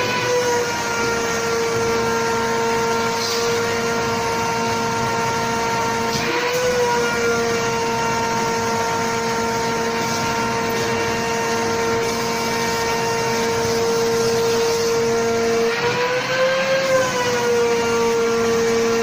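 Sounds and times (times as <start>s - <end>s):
vacuum cleaner whine: 0.0s - 19.0s.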